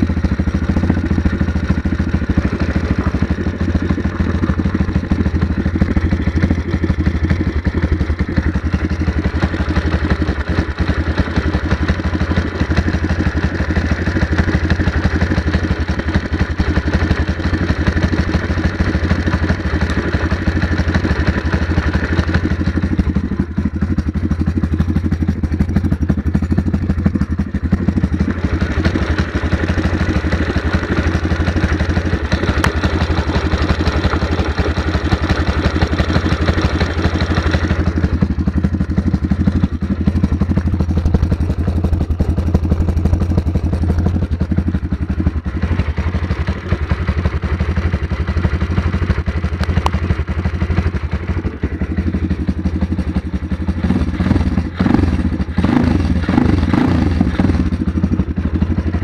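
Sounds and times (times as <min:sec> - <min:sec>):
motorbike engine idling: 0:00.0 - 0:59.0.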